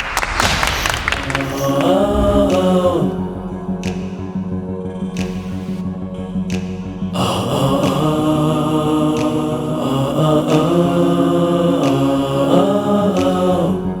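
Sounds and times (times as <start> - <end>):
chanted vocal melody: 0.1 - 14.0.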